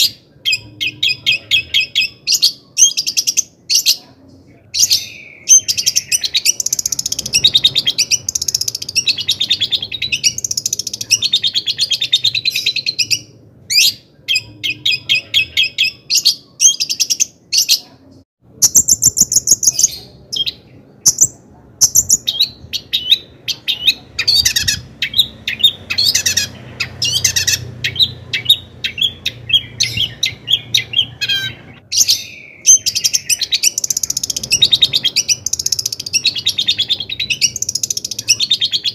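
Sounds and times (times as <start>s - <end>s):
bird chattering song: 0.0s - 4.1s, 4.7s - 17.9s, 18.6s - 38.9s.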